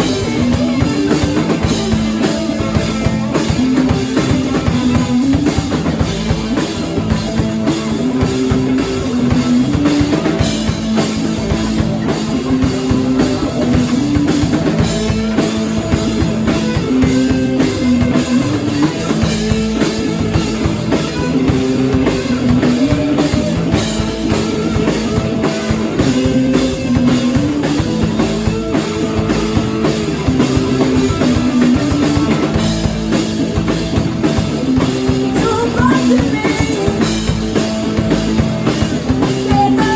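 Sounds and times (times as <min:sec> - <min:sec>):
drum kit beat: 0:00.0 - 0:39.9
guitar riff: 0:00.0 - 0:39.9.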